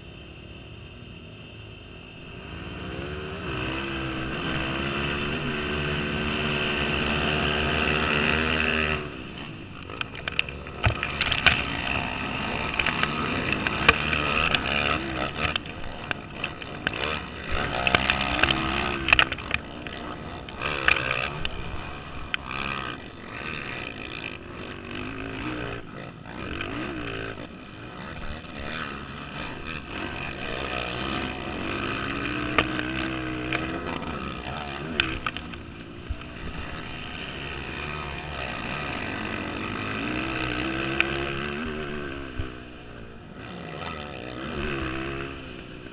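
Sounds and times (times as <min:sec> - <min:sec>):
atv engines revving: 0:00.0 - 0:45.9.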